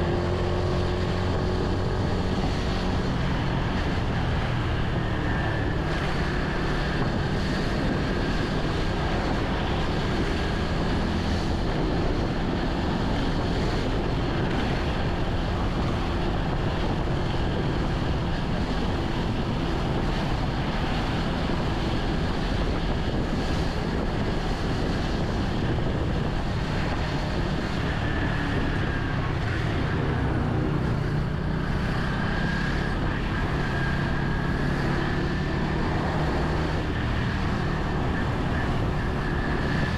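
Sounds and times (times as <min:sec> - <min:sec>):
road and engine hum: 0:00.0 - 0:39.9
wind rush on microphone: 0:00.0 - 0:39.9.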